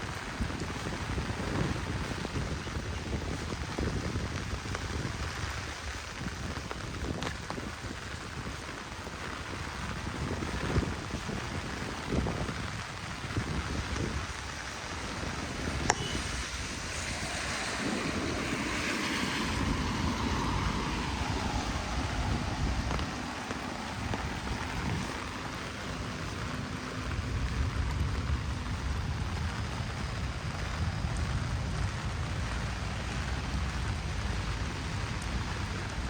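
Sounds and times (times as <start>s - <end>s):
heavy rain hissing: 0.0s - 36.0s
wind rumble on microphone: 0.0s - 36.0s.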